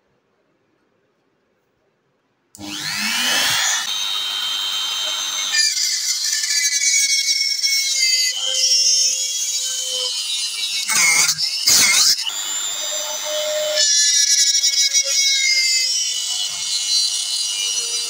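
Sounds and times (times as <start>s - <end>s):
bit drilling into wood: 2.6s - 18.0s
electric rotary tool whining: 2.6s - 18.0s.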